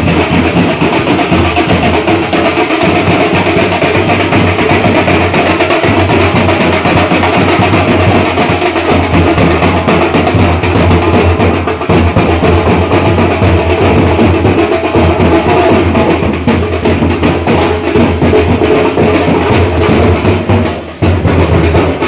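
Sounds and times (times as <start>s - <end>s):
loud dense drumming: 0.0s - 22.0s.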